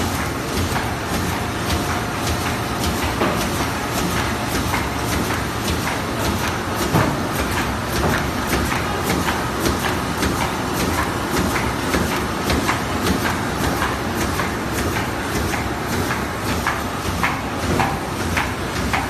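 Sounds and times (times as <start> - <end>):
laminating machine clatter and drone: 0.0 - 19.0.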